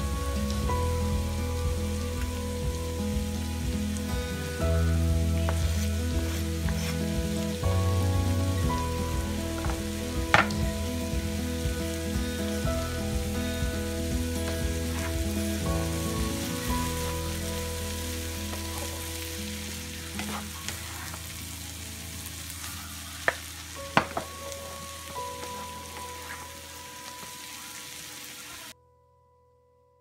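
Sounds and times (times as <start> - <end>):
stir fry sizzling in a frying pan: 0.0 - 28.8.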